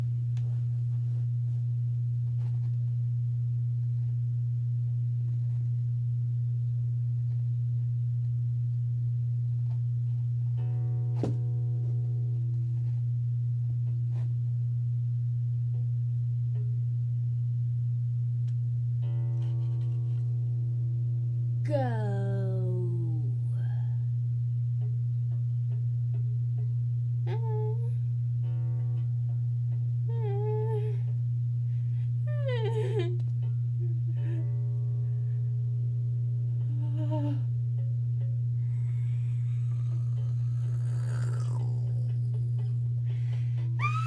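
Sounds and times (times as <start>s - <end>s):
loud low hum tone: 0.0s - 44.0s.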